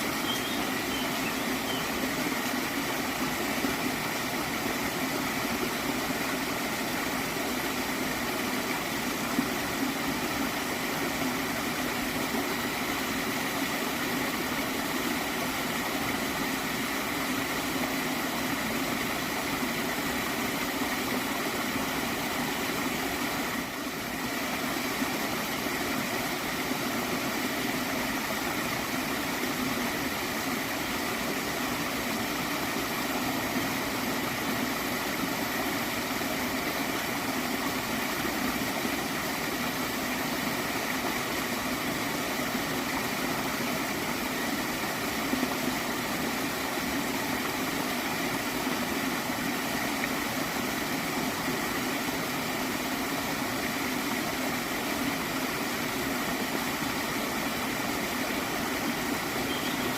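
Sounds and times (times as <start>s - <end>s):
stream gurgling: 0.0s - 59.9s.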